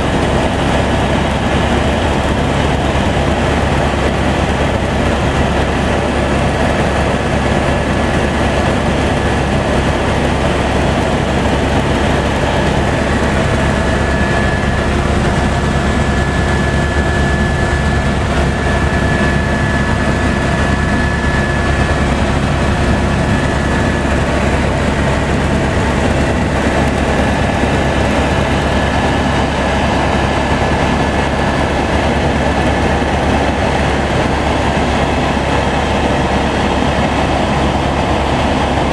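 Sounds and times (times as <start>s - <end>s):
helicopter cabin drone: 0.0s - 38.9s.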